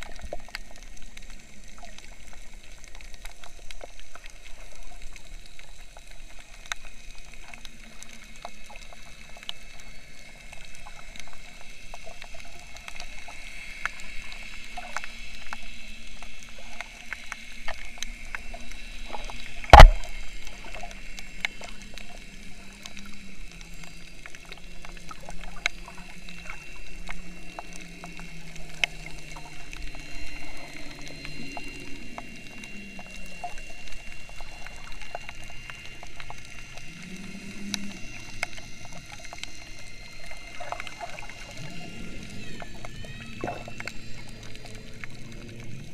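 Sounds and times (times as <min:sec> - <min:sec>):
faint steady hum: 0:00.0 - 0:45.9
underwater crackle of clicks: 0:00.0 - 0:45.9.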